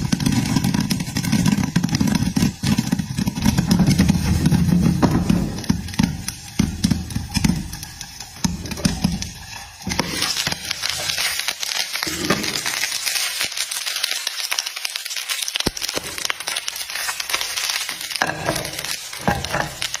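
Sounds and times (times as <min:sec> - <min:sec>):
popcorn crackling in a pan: 0:00.0 - 0:20.0.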